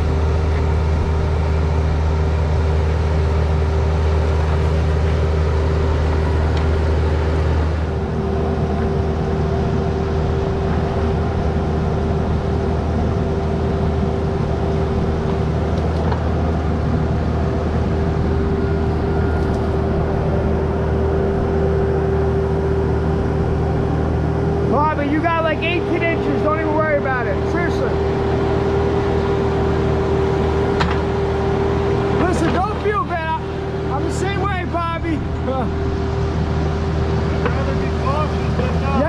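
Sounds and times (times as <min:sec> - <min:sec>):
high whine: 0:00.0 - 0:39.0
mini excavator engine drone: 0:00.0 - 0:39.0.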